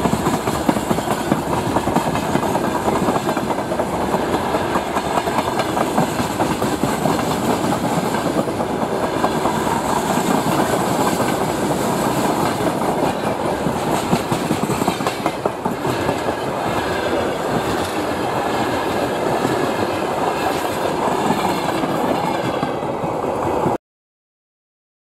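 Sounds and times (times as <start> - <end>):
freight train wagons rumbling: 0.0 - 23.8
wheels clacking over rail joints: 0.0 - 23.8.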